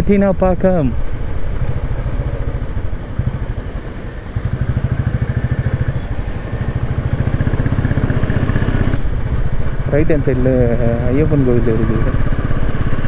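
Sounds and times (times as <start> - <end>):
motorcycle engine running: 0.9 - 13.0.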